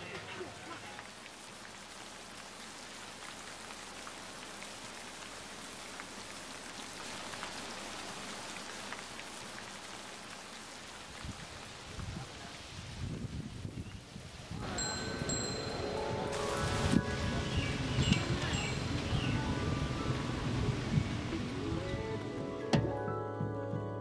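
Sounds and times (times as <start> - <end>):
steady rain falling: 0.0 - 22.8.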